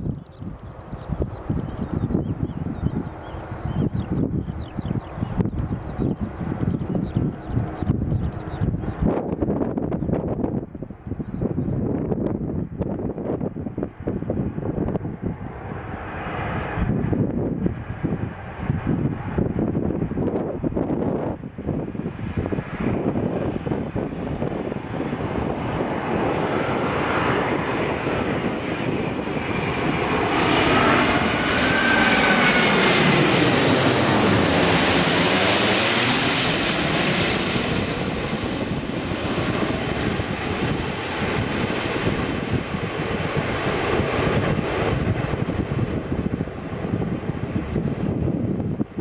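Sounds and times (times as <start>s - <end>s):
jet airliner passing overhead: 0.0s - 49.0s.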